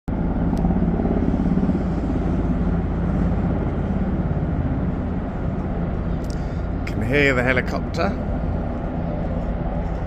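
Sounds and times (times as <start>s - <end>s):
helicopter engine hum: 0.1s - 10.0s
helicopter rotor chop: 0.1s - 10.0s.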